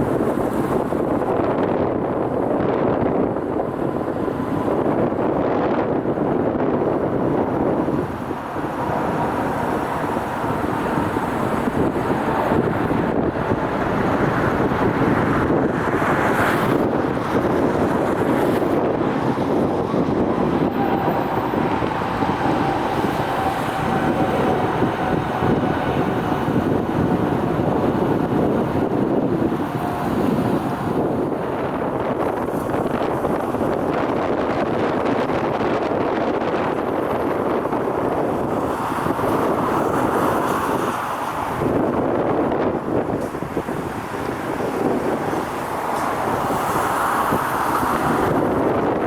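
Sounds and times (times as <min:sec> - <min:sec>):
faint engine whine: 0:00.0 - 0:40.2
jet engines droning: 0:00.0 - 0:49.0
wind on microphone: 0:00.0 - 0:49.0.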